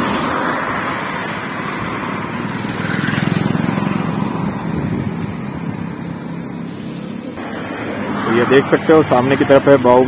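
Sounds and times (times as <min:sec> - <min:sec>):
highway traffic noise: 0:00.0 - 0:10.0
vehicle passing: 0:00.0 - 0:10.0.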